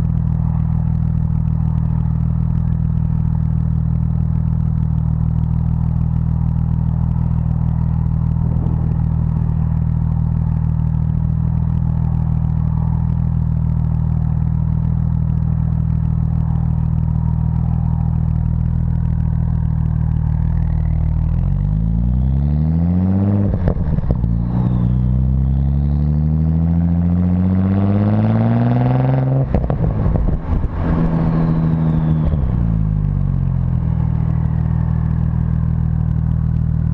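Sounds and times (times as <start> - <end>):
car engine idling and revving: 0.0 - 36.9.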